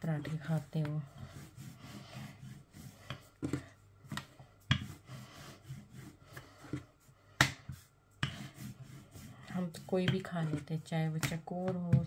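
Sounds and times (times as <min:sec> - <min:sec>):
rolling pin rubbing dough: 0:00.0 - 0:12.0.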